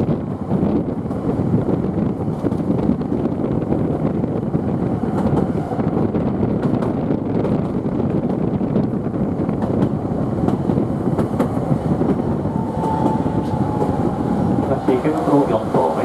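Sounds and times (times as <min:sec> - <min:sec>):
streetcar motors and wheels rumbling: 0:00.0 - 0:16.0.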